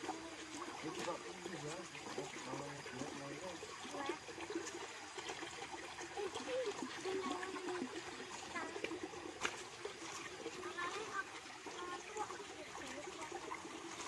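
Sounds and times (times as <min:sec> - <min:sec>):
stream trickling over stones: 0:00.0 - 0:14.0.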